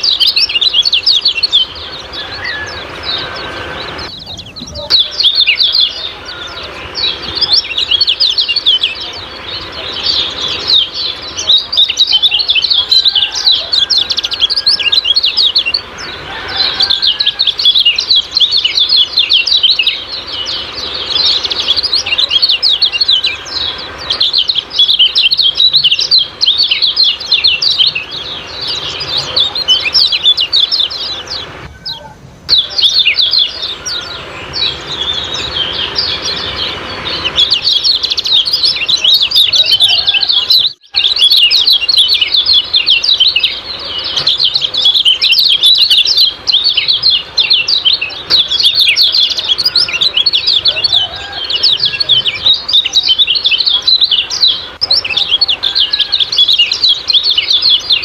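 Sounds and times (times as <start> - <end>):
songbirds chirping rapidly: 0.0 - 58.0.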